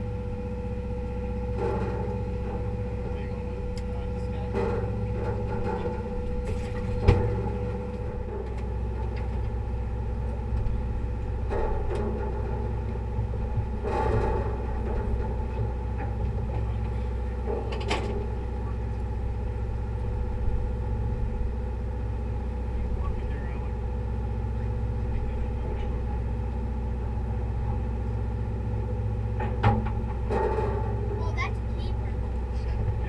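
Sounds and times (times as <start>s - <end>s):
boat engine rumbling: 0.0s - 33.0s.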